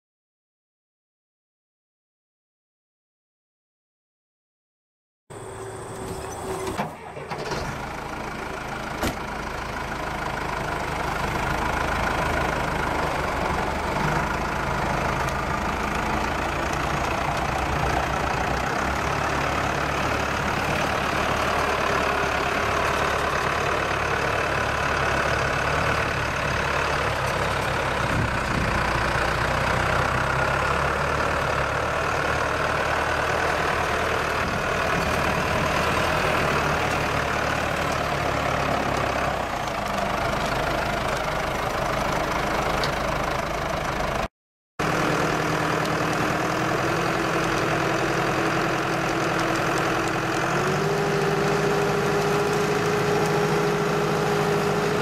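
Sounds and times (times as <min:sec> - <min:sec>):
tractor engine running: 0:05.3 - 0:55.0.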